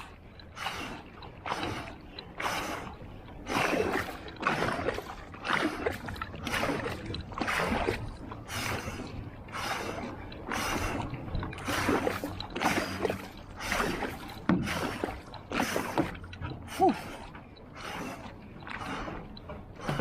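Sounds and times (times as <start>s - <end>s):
paddle strokes splashing water: 0.0s - 20.0s.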